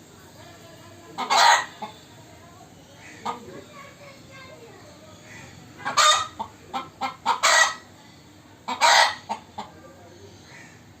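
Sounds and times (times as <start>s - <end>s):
chickens clucking and squawking: 1.0s - 11.0s.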